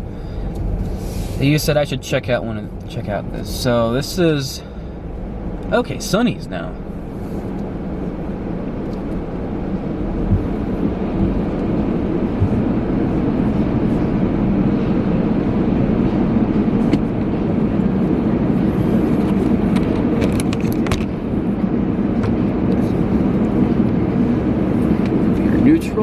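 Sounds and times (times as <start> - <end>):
car engine rumble: 0.0 - 26.0
car wash machinery: 3.3 - 26.0.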